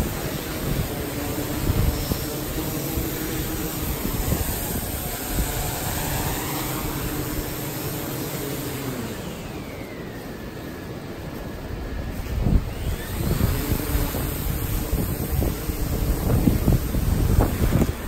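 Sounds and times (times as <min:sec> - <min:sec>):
wind noise: 0:00.0 - 0:10.0, 0:11.3 - 0:18.0
drone propellers humming: 0:00.0 - 0:18.0.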